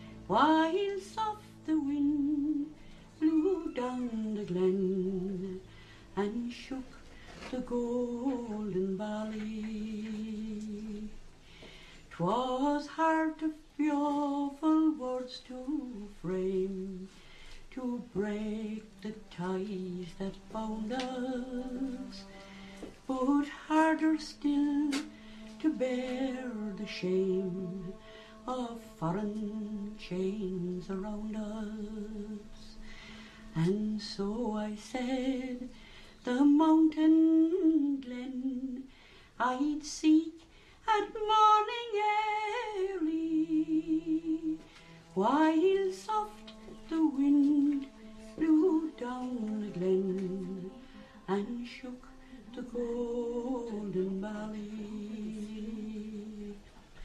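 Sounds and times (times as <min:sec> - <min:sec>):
woman singing unaccompanied: 0:00.0 - 0:11.4, 0:12.0 - 0:57.0.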